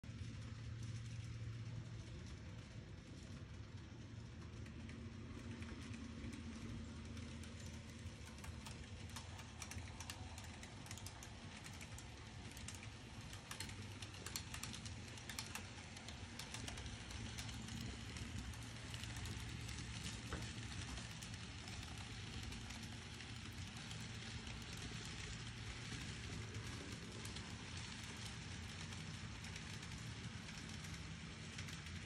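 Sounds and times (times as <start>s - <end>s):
model train humming: 0.1s - 32.0s
wheels clicking on rails: 0.1s - 32.0s.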